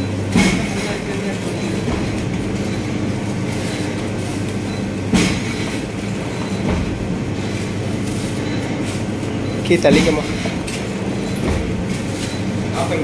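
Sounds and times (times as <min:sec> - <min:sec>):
machine mechanical hum: 0:00.0 - 0:13.0.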